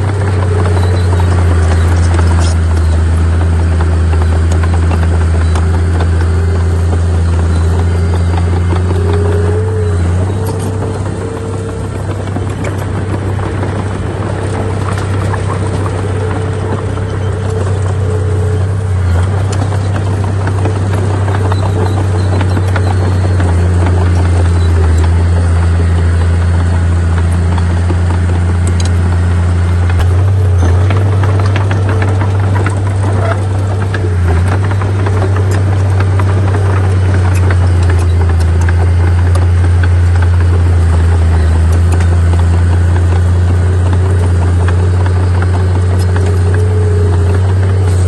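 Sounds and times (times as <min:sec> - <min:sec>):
heavy diesel engine humming: 0:00.0 - 0:48.0.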